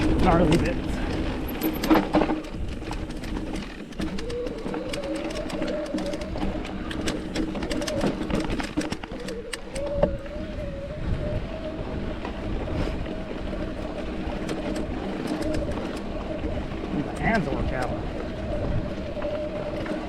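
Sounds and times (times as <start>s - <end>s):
bike clicks and rattles: 0.0s - 20.0s
bike rolling over rocks: 0.0s - 20.0s
wavering hum: 0.0s - 20.0s.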